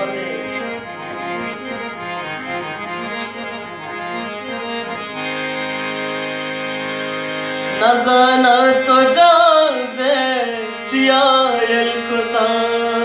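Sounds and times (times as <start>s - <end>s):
harmonium playing: 0.0s - 13.0s.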